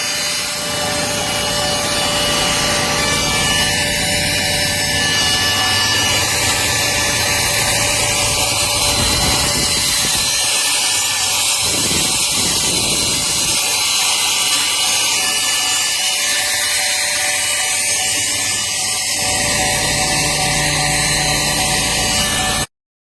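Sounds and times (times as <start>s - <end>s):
handheld vacuum running: 0.0s - 22.7s.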